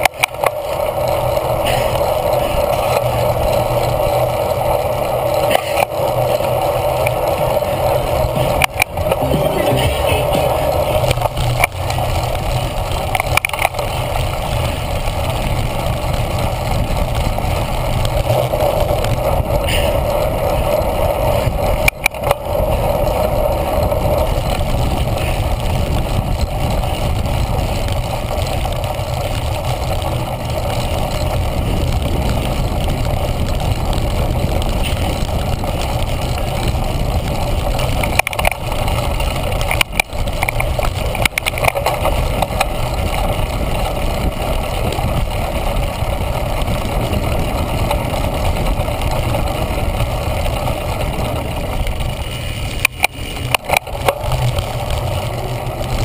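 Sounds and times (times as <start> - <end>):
bike tyres rolling over grass: 0.0 - 56.0
wind rushing over microphone: 0.0 - 56.0.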